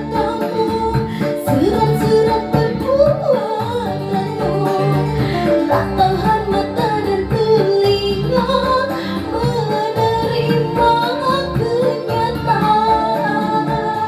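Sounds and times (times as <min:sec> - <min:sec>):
recorded backing track: 0:00.0 - 0:14.0
woman singing: 0:00.0 - 0:14.0.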